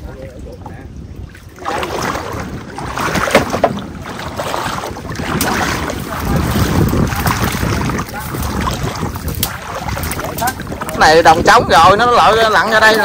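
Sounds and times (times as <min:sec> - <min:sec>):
splashing in shallow water: 0:00.0 - 0:13.0
wind buffeting microphone: 0:00.0 - 0:13.0.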